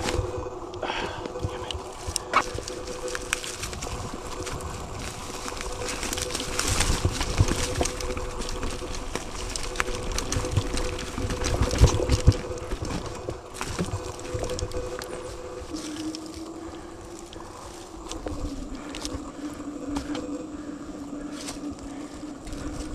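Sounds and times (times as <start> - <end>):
bike tyres on dirt trail: 0.0 - 22.9
steady hum: 0.0 - 22.9.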